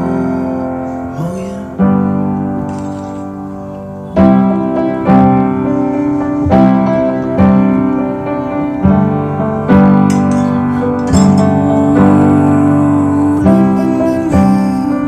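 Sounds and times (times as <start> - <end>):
piano chords: 0.0 - 15.0
instrumental pop music: 2.4 - 15.0.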